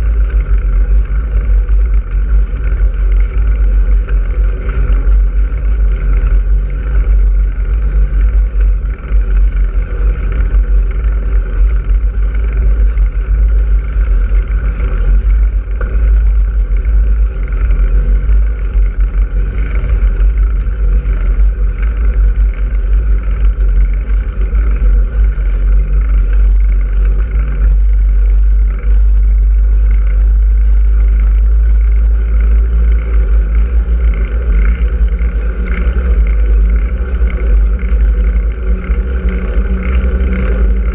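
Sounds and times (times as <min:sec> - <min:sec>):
road and traffic noise: 0:00.0 - 0:40.9.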